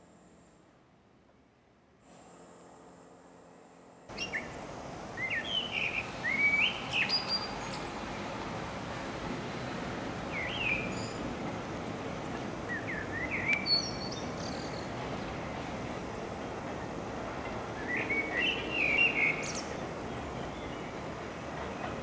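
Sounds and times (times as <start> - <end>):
railway yard background noise: 0.0 - 22.0.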